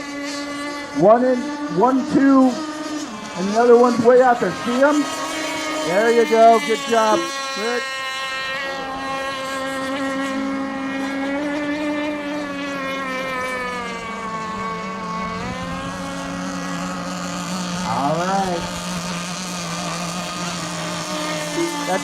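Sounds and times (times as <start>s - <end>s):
racing boat engine whine: 0.0s - 22.0s.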